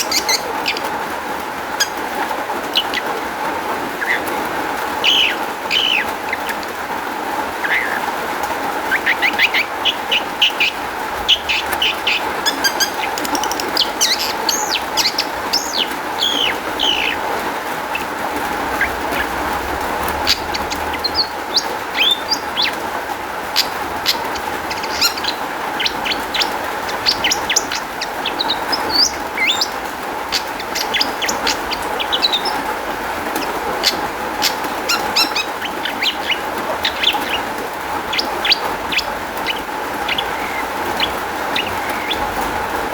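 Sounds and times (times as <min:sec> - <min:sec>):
shrike singing chirps and trills: 0:00.0 - 0:01.0, 0:03.9 - 0:06.9, 0:08.8 - 0:42.8.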